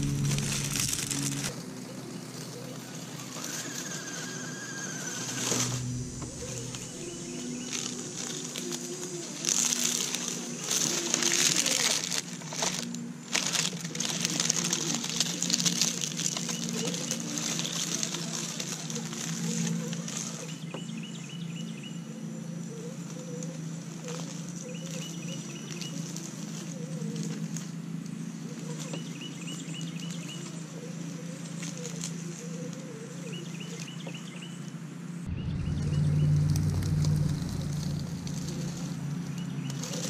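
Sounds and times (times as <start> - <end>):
birds chirping: 0.0 - 11.9, 13.8 - 40.0
dry leaves crackling under tyres: 0.0 - 40.0.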